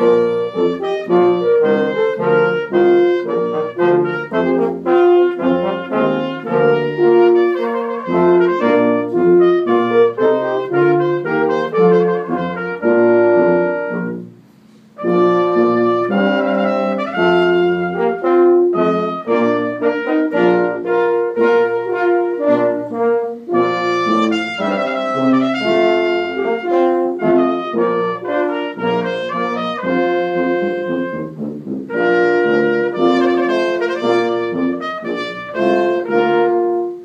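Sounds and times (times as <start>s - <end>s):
brass ensemble playing: 0.0s - 37.0s.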